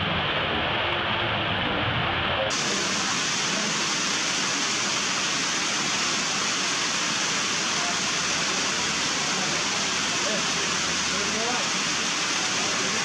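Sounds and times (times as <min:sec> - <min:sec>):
heavy rain pouring: 0:02.5 - 0:13.0.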